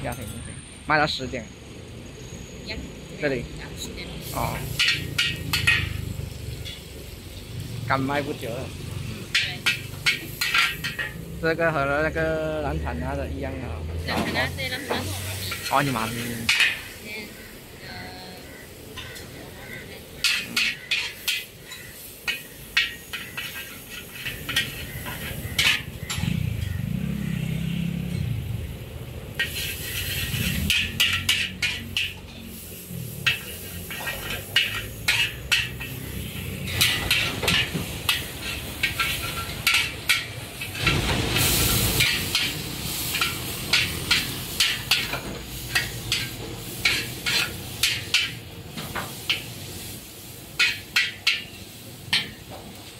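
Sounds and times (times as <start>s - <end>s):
noodles sizzling: 3.0s - 52.9s
metal spatula scraping wok: 4.2s - 11.4s, 14.0s - 17.6s, 18.4s - 52.5s.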